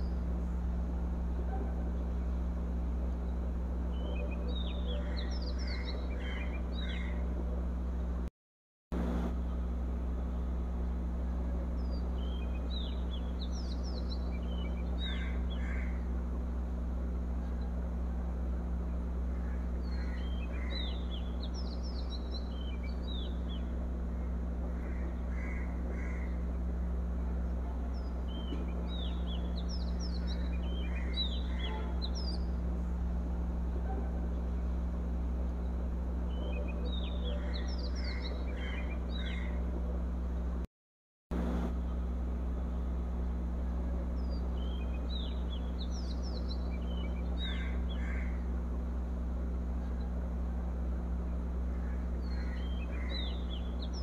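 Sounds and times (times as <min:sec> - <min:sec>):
birds chirping: 0:00.0 - 0:08.2, 0:10.2 - 0:40.2, 0:41.9 - 0:54.0
steady low hum: 0:00.0 - 0:08.3, 0:08.9 - 0:40.7, 0:41.3 - 0:54.0.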